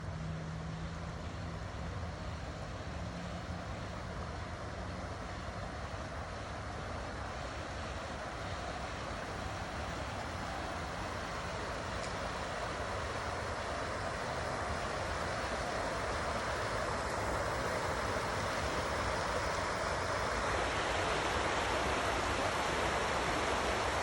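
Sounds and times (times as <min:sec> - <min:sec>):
stream water flowing over rocks: 0:00.1 - 0:24.0.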